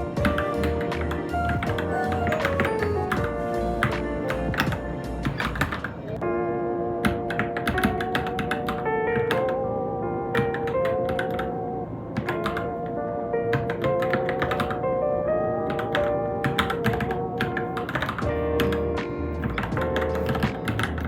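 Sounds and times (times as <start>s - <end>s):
background music: 0.0s - 21.0s
mechanical keyboard typing: 0.1s - 6.1s, 7.0s - 9.6s, 10.4s - 11.6s, 12.2s - 12.9s, 13.5s - 14.9s, 15.7s - 21.0s.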